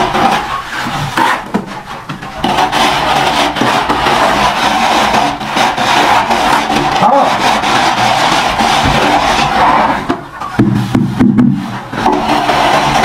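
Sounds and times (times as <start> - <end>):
trowel scraping mortar: 0.0 - 13.0.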